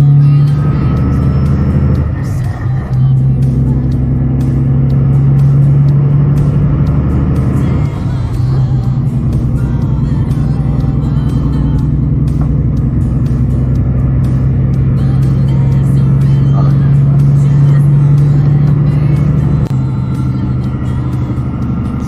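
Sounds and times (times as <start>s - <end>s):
diesel truck engine drone: 0.0s - 22.0s.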